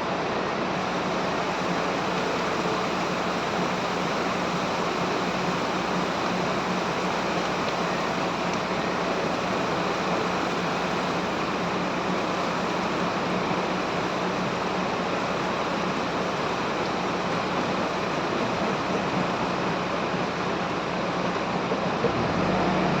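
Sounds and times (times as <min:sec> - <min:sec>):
backhoe loader engine running: 0:00.8 - 0:23.0.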